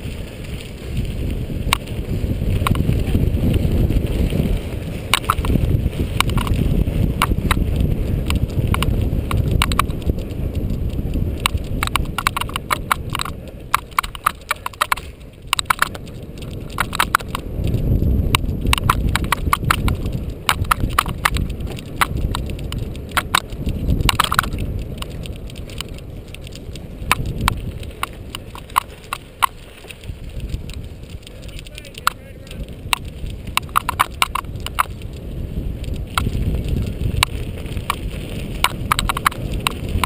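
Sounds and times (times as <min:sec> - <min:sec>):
bike rattling clicks: 0:00.0 - 0:40.0
tyre and wind rumble: 0:00.0 - 0:40.0.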